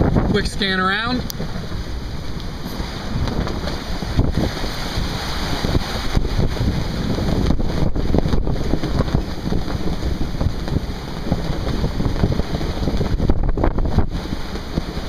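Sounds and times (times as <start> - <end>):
sea rushing: 0.0 - 15.0
wind buffeting microphone: 0.0 - 15.0.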